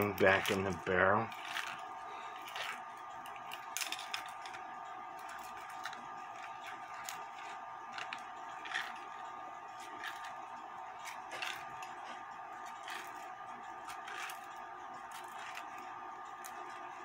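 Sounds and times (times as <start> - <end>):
metallic clicks and scrapes: 0.0 - 4.6, 5.2 - 17.0
steady background hum: 0.0 - 17.0.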